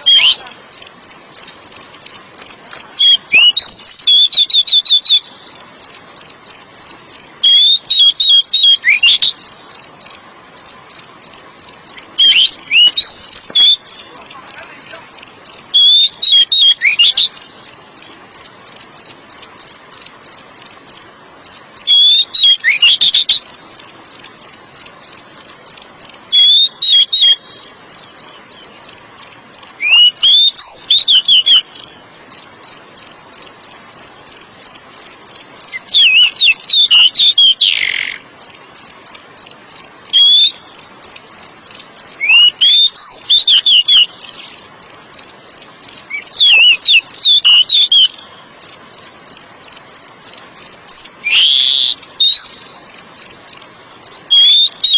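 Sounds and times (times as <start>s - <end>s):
bird singing whistled notes: 0.0s - 10.2s, 11.9s - 21.0s, 21.8s - 53.3s, 54.1s - 54.9s
cricket chirping: 0.0s - 54.9s.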